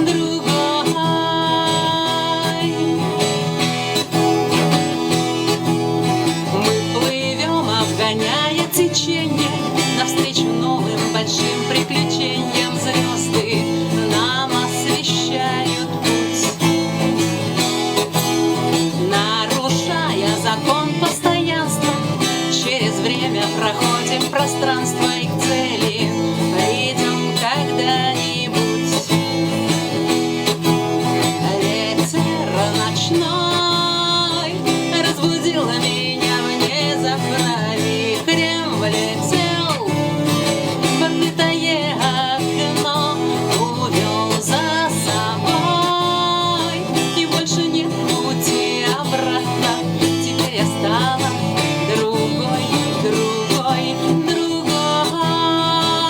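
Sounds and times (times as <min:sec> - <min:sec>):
acoustic guitar strumming: 0:00.0 - 0:56.0
woman singing: 0:00.0 - 0:56.0.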